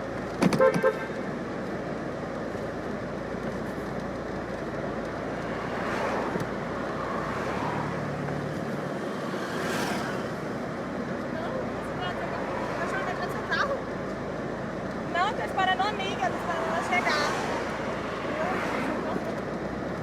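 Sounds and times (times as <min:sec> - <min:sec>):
steady hum of traffic: 0:00.0 - 0:20.0
vehicles passing: 0:00.0 - 0:20.0.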